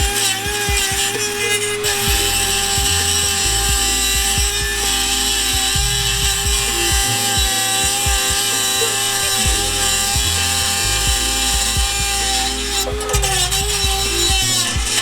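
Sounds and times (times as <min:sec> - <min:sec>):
rotary tool high whine: 0:00.0 - 0:15.0
sanding pad grinding metal: 0:00.0 - 0:15.0.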